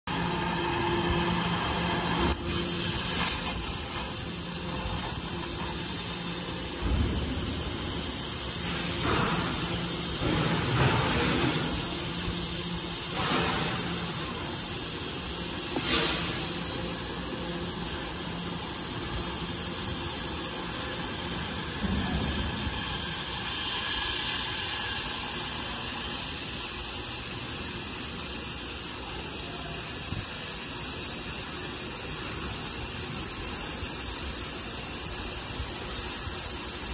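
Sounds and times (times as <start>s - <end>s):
cutting torch hissing: 2.1s - 36.9s.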